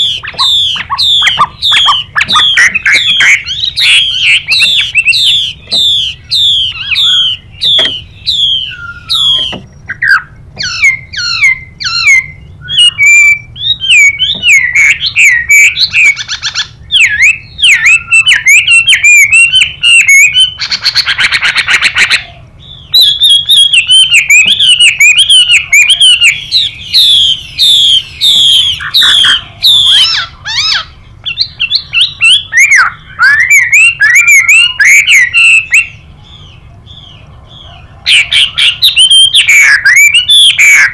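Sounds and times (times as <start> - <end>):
bird whistling varied notes: 0.0 - 40.9.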